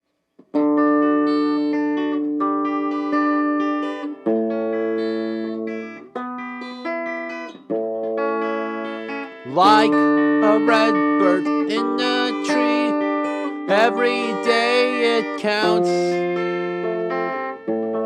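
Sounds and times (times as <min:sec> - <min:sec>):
guitar chords ringing: 0:00.5 - 0:18.0.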